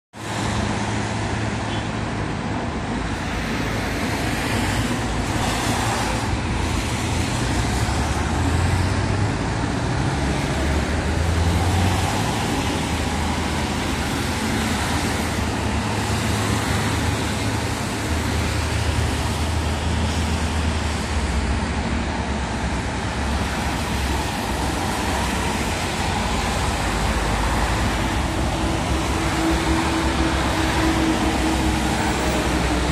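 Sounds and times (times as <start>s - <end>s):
cars and trucks passing: 0.2s - 32.9s
tyre noise on wet road: 2.5s - 32.9s.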